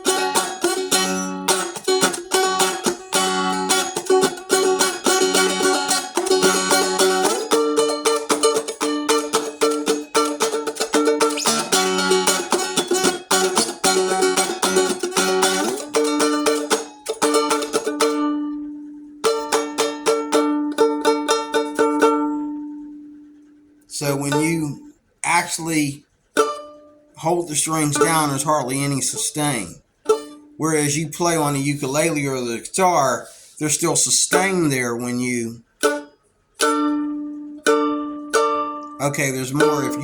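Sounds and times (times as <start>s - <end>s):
stick dulcimer strummed chords: 0.0s - 40.0s.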